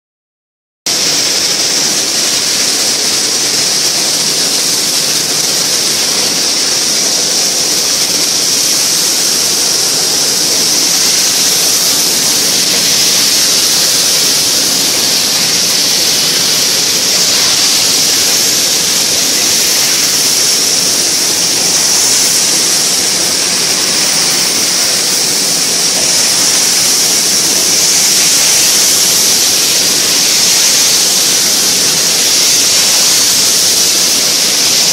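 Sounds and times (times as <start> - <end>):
baking oven hissing: 0.9 - 34.9.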